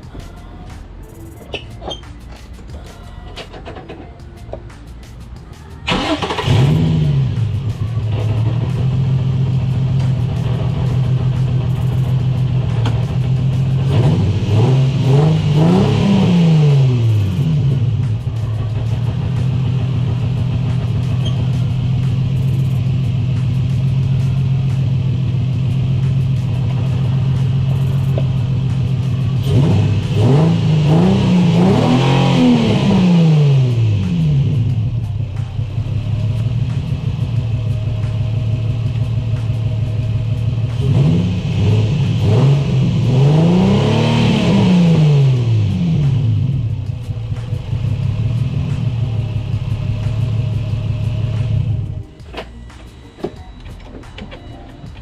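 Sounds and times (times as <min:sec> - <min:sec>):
car engine starting and idling: 0:00.0 - 0:55.0
engine revving: 0:05.8 - 0:52.0.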